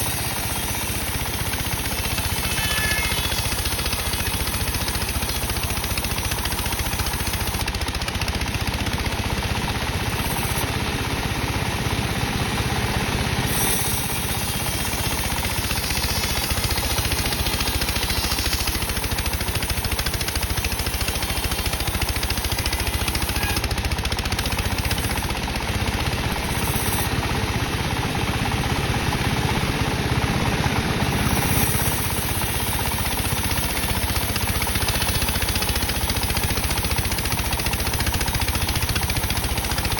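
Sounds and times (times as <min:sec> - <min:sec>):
saw cutting wood: 0:00.0 - 0:10.8, 0:13.4 - 0:27.6, 0:30.7 - 0:39.9.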